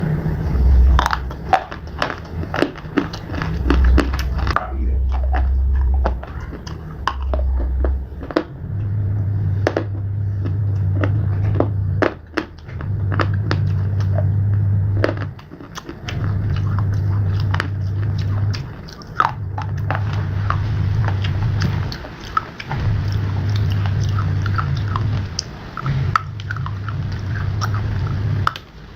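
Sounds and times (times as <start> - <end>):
slate being chewed crunching: 0.0 - 28.7
low steady hum: 0.0 - 28.9.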